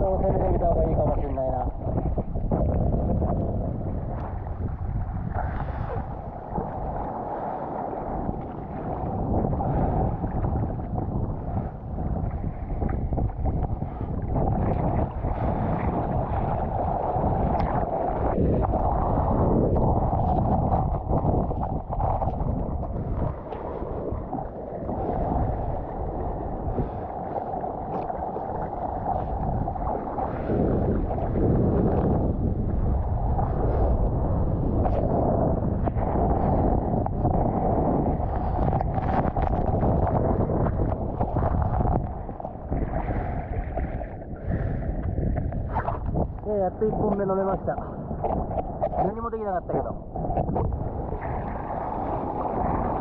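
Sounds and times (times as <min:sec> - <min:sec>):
sea water washing: 0:00.0 - 0:53.0
strong wind on microphone: 0:00.0 - 0:53.0.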